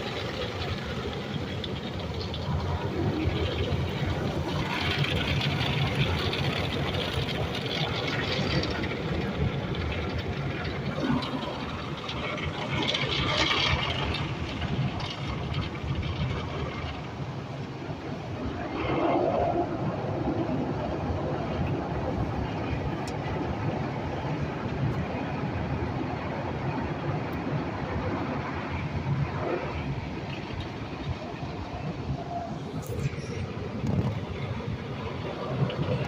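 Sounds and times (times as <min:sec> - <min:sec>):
car wash machinery rumble: 0:00.0 - 0:36.0.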